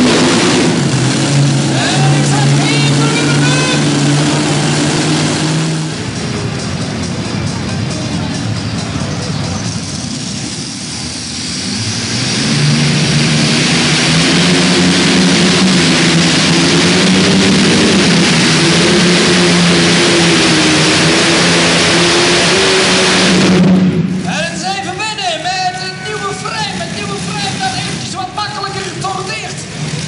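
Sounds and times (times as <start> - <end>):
tractor engine at full throttle: 0.0 - 30.0.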